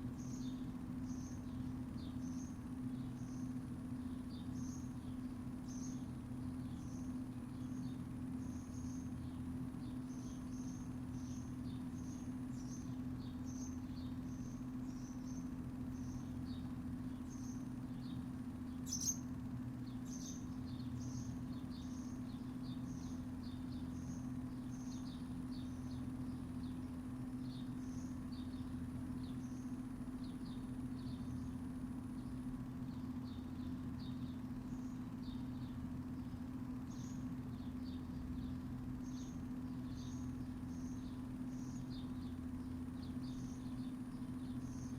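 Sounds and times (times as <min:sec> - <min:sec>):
steady low hum: 0:00.0 - 0:44.9
birds chirping: 0:00.1 - 0:44.9.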